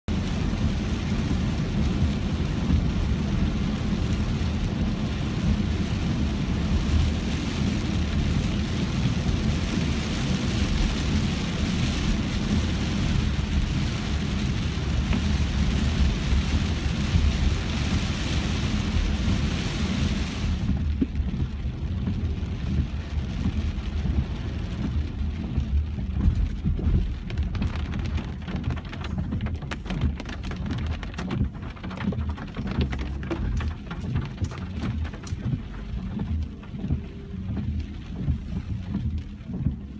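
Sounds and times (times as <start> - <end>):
deep rumble: 0.1 - 39.9
heavy rain pelting a car: 0.1 - 39.9.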